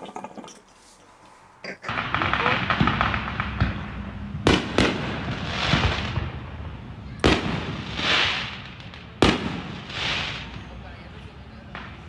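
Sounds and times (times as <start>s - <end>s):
fireworks bangs: 1.9s - 12.0s.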